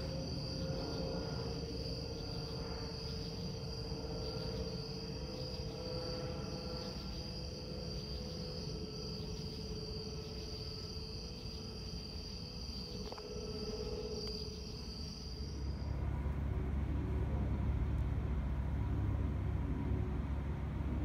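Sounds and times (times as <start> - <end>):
crickets trilling: 0.0 - 21.0
jet airliner rumbling overhead: 0.0 - 21.0.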